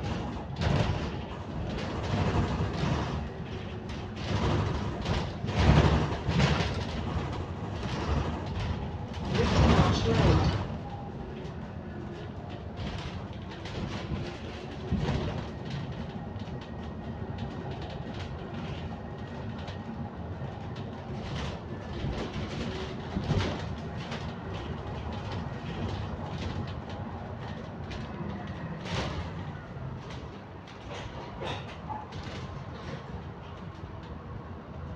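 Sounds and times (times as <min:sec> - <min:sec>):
bus engine and road rumble: 0:00.0 - 0:34.9
rattles and knocks of bus body: 0:00.0 - 0:34.9.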